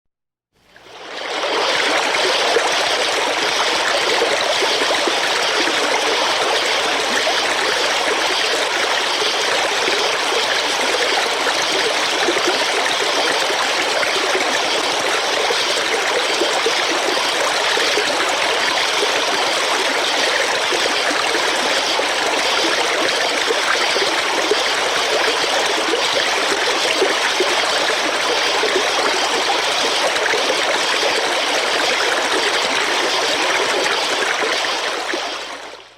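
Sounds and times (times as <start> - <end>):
stream babbling over stones: 0.9 - 35.8.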